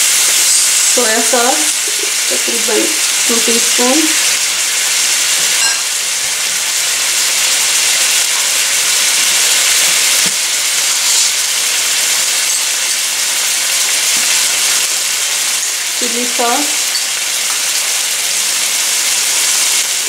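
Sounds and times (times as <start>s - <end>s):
sauce sizzling in hot oil: 0.0s - 20.0s.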